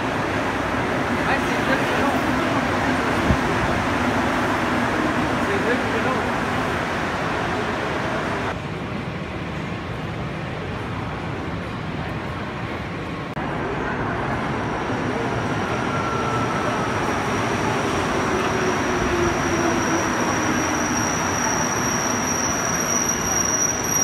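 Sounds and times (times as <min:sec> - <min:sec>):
train pulling into station: 0:00.0 - 0:24.0.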